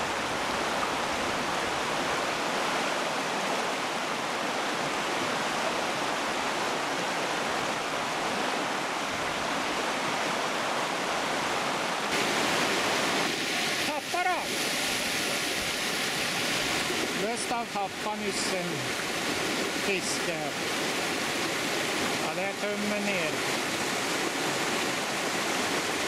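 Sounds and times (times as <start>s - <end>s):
stream running water: 0.0s - 26.0s.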